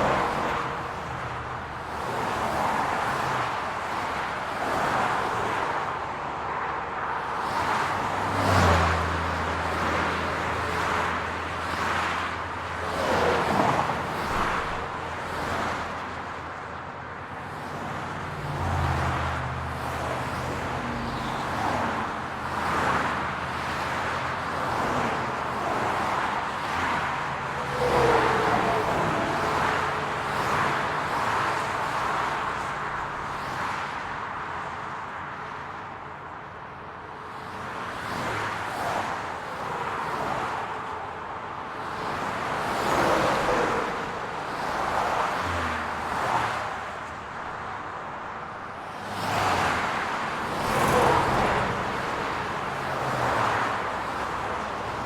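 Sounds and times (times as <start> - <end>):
cars passing: 0.0 - 55.0
hum of engines and tyres: 0.0 - 55.0.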